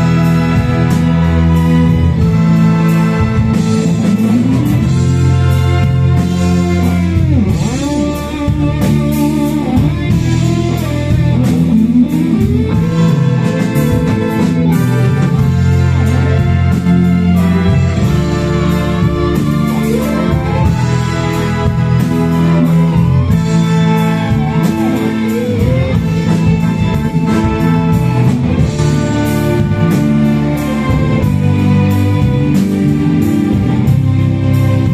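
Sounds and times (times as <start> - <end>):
string orchestra playing: 0.0 - 34.9.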